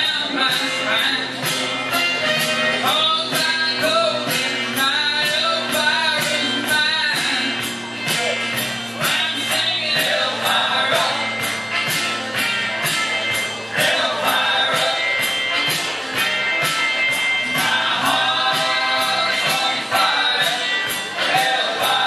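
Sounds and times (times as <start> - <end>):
country song over speaker: 0.0 - 22.0.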